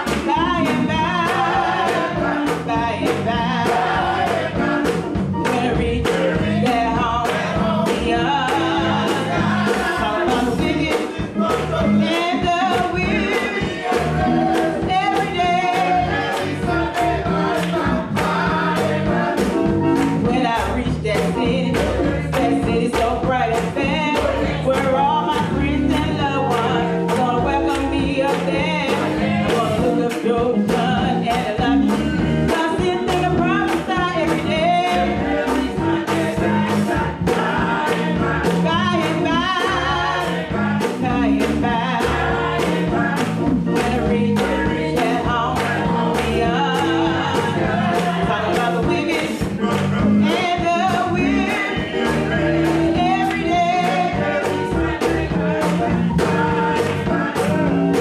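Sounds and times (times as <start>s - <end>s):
gospel choir singing: 0.0s - 58.0s
live band playing: 0.0s - 58.0s
steady drum beat: 0.0s - 58.0s.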